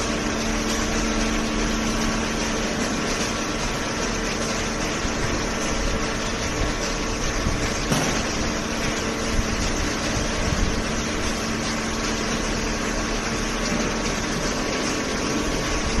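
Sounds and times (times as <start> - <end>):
baler motor hum and hiss: 0.0 - 16.0.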